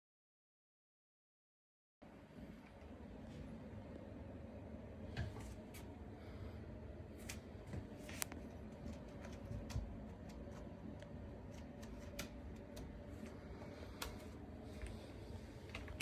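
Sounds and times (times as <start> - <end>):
low room hum: 2.0 - 16.0.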